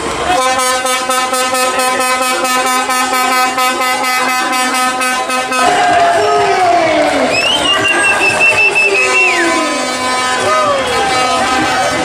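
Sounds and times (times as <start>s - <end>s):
truck air horn blast: 0.3s - 5.9s, 7.6s - 12.0s.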